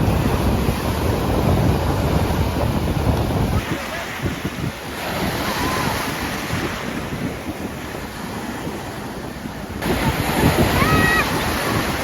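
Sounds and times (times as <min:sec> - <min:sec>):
ocean surf washing ashore: 0:00.0 - 0:12.0
wind buffeting microphone: 0:00.0 - 0:12.0.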